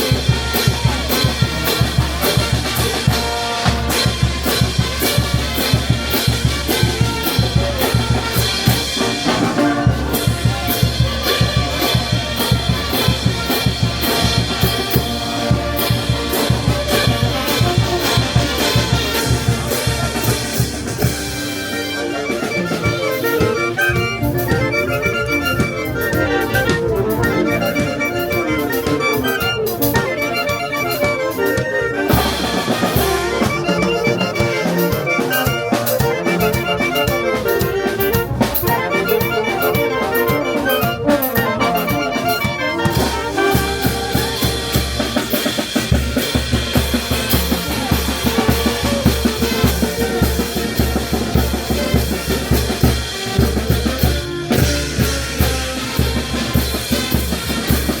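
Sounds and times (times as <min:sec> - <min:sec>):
brass band playing: 0:00.0 - 0:58.0
drum beat: 0:00.0 - 0:58.0.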